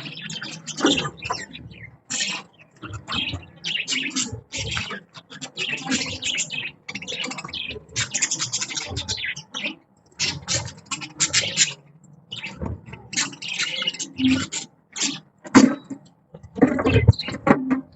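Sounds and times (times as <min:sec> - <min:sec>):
budgies chattering: 0:00.0 - 0:17.9.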